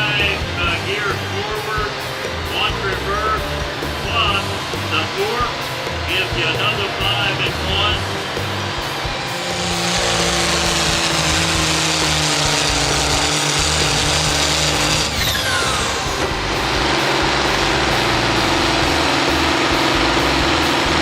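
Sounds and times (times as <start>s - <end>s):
high whine: 0.0s - 21.0s
tractor engine under load: 0.0s - 21.0s.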